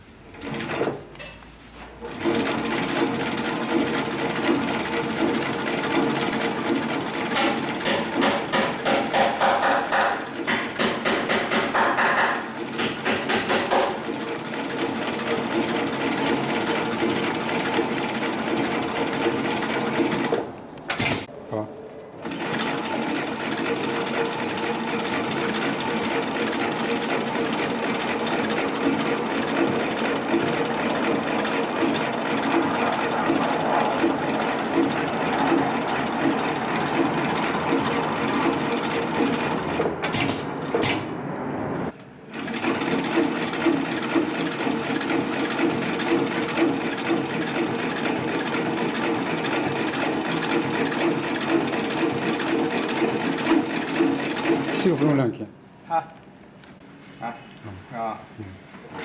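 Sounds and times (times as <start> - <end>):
sewing machine running: 0.2 - 1.2, 2.0 - 21.3, 22.2 - 41.0, 42.3 - 55.2.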